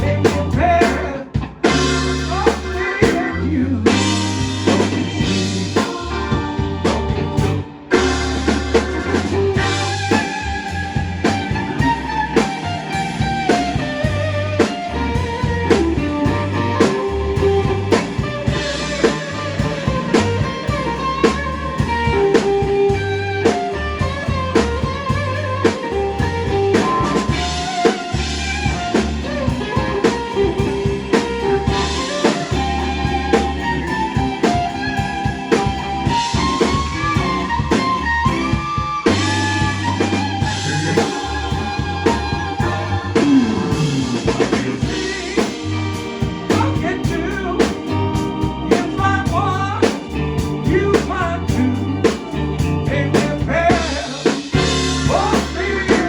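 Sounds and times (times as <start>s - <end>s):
bass: 0.0s - 56.0s
drum kit: 0.0s - 56.0s
electric guitar lead: 0.0s - 56.0s.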